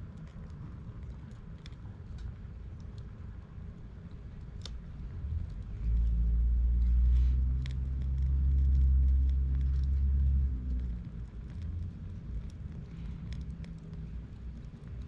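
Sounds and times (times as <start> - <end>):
campfire crackling and popping: 0.0 - 15.0
vehicle engine rumble: 0.0 - 15.0.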